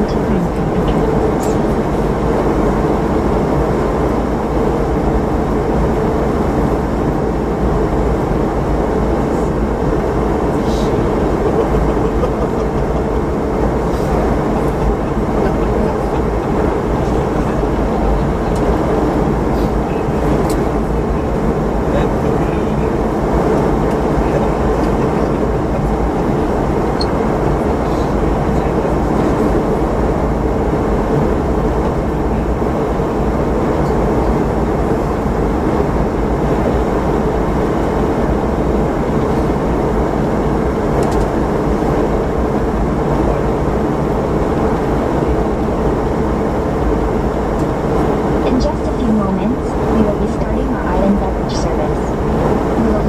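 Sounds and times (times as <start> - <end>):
aircraft cabin air rush: 0.0 - 53.0
faint jet engine hum: 0.0 - 53.0.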